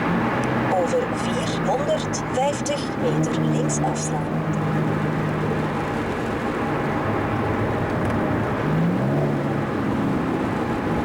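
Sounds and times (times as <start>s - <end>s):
car engine: 0.0s - 11.0s
road noise inside car: 0.0s - 11.0s.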